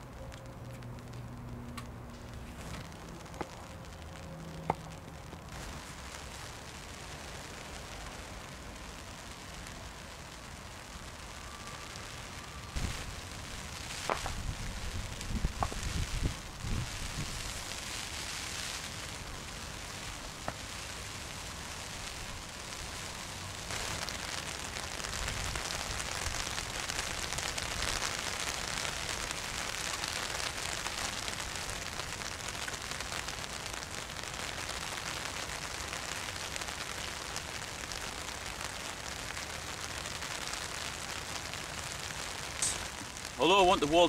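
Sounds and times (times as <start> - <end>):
rain falling on water: 0.0 - 44.0.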